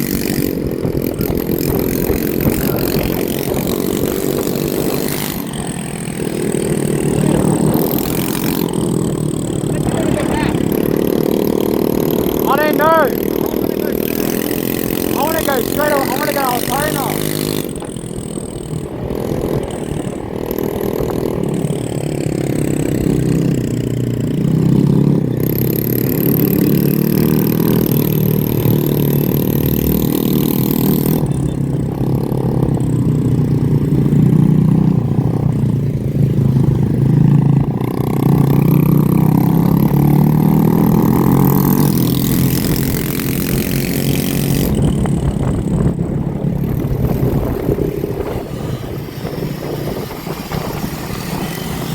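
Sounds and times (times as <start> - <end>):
motorbike engines revving: 0.0 - 51.9.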